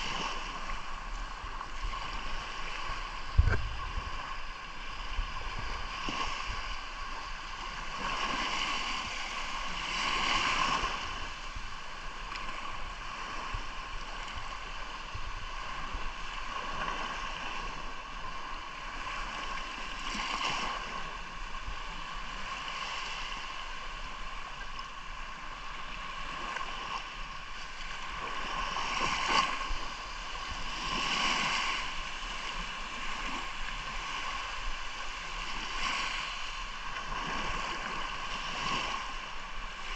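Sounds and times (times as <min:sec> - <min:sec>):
waves washing in: 0:00.0 - 0:39.9.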